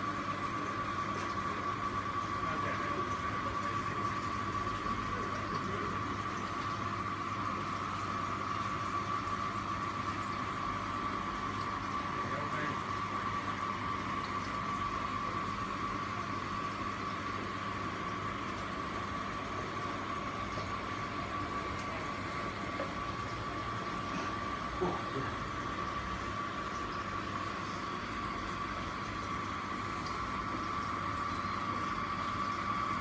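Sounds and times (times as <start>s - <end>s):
pumps humming: 0.0s - 33.0s
water circulating: 0.0s - 33.0s.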